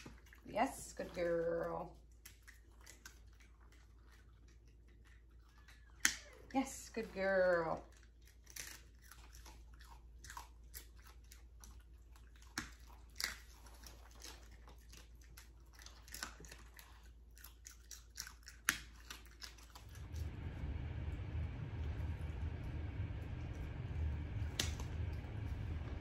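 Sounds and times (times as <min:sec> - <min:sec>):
dog chewing a treat: 0:00.0 - 0:06.6, 0:07.2 - 0:26.0.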